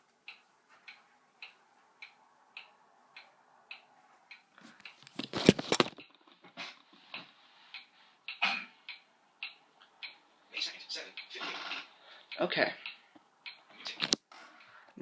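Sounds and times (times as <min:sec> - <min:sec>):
pendulum clock ticking: 0:00.0 - 0:05.1, 0:06.0 - 0:14.9.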